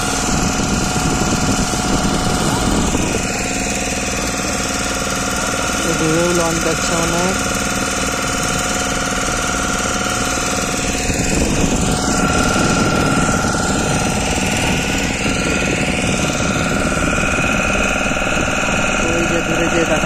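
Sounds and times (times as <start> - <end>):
boat engine humming: 0.0 - 20.0
motorboat passing: 0.0 - 20.0.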